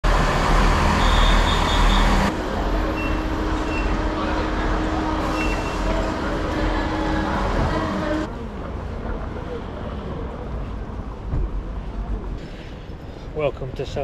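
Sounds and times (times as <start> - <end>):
train rumbling with high whine: 0.0 - 13.1.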